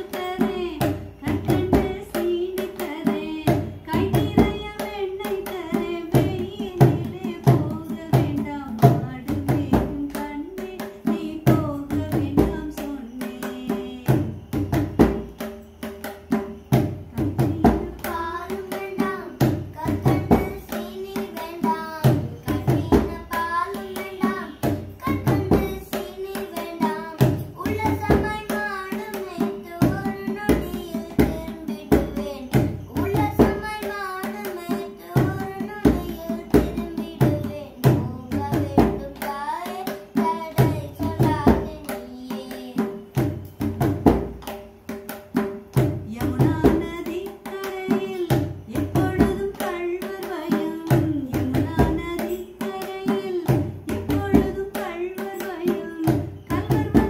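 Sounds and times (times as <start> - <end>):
woman singing: 0.0 - 15.5, 16.3 - 44.6, 45.4 - 57.0
boy singing: 0.0 - 57.0.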